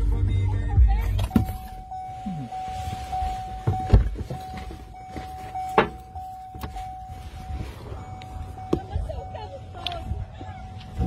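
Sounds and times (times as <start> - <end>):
steady high tone: 1.2 - 11.0.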